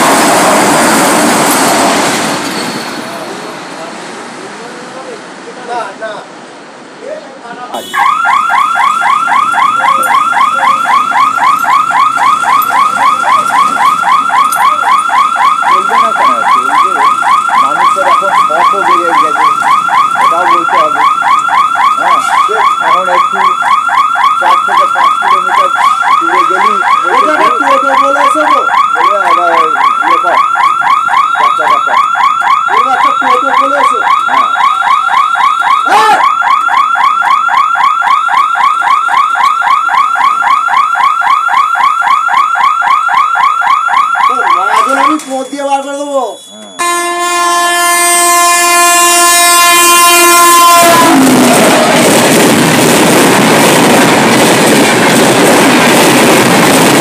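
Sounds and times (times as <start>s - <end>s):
level crossing alarm pulsing: 7.8s - 57.0s.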